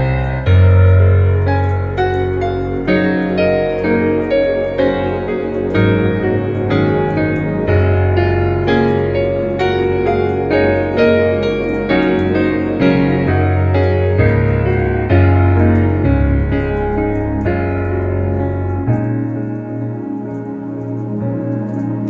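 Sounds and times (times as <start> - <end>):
piano notes and chords: 0.0 - 22.0.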